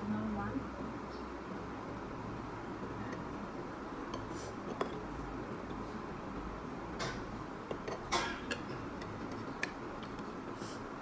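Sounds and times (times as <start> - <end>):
steady hiss: 0.8 - 11.0.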